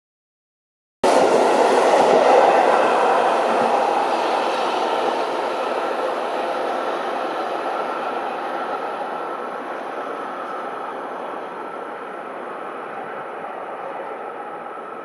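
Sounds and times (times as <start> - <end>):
electric train rumbling: 1.0 - 15.0.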